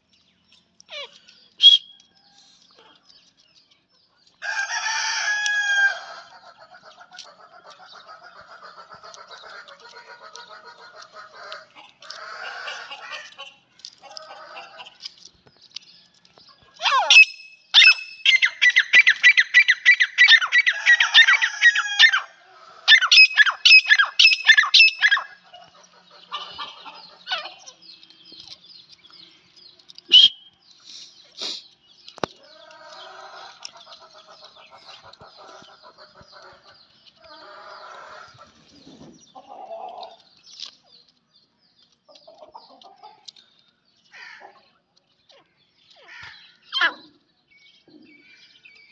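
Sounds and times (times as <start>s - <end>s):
birds calling loudly: 0.0s - 48.9s
soft bird chatter: 0.0s - 48.9s.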